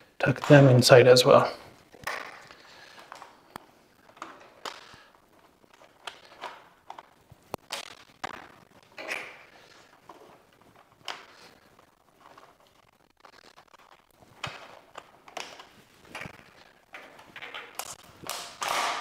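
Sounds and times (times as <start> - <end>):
cables rustling and scraping: 0.0 - 18.8.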